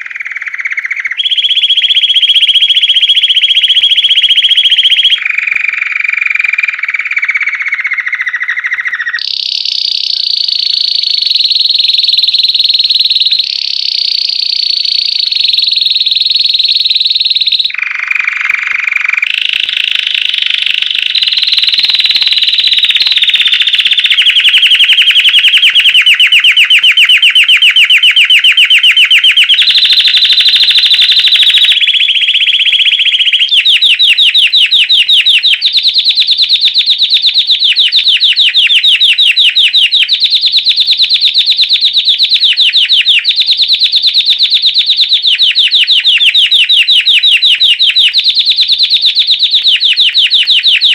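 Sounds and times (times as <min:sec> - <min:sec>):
canary singing with trills: 0:00.0 - 0:50.9.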